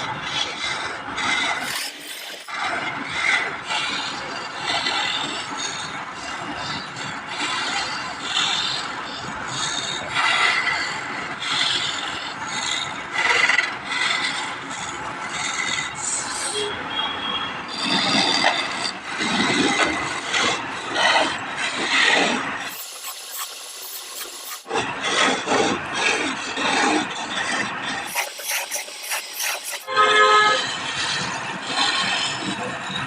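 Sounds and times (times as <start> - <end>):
tool scraping on wood: 0.0 - 33.0.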